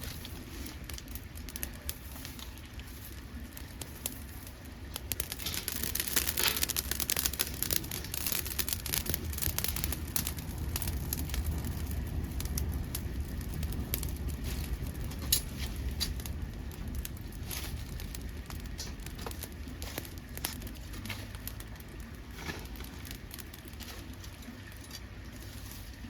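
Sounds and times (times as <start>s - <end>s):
low steady rumble: 0.0s - 26.0s
wood fire crackling and popping: 0.0s - 26.0s.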